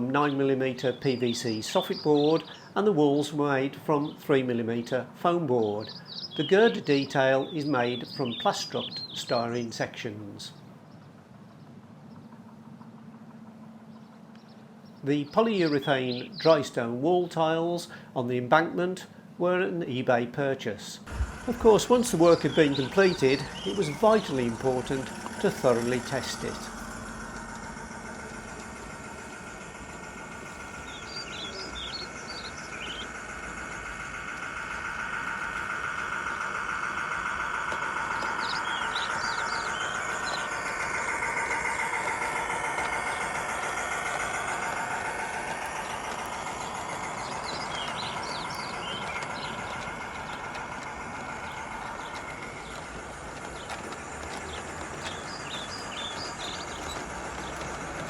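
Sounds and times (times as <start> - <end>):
birds chirping: 0.0 - 18.1, 21.0 - 58.0
model train motors whining: 0.0 - 18.2, 21.1 - 58.0.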